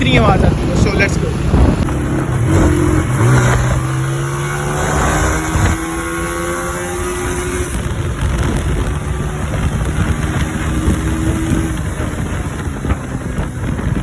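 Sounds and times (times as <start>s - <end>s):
motorcycle engine pulling: 0.0s - 14.0s
wind on microphone: 0.0s - 14.0s.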